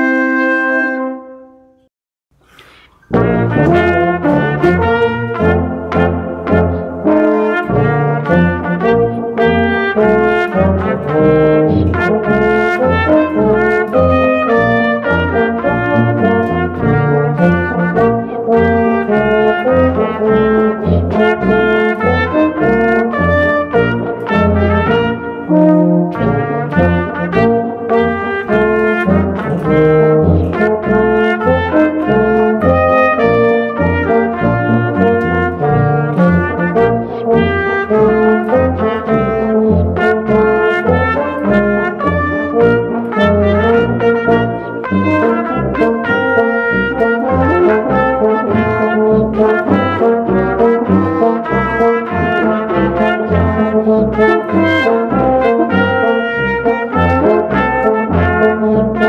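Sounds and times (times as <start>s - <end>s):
trumpets and trombones playing: 0.0s - 1.7s, 3.0s - 59.0s.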